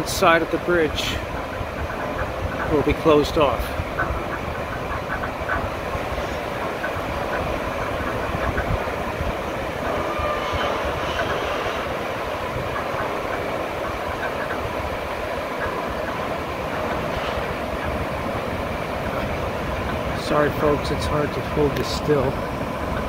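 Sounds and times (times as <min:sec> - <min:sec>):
river water rushing through dam gates: 0:00.0 - 0:23.0.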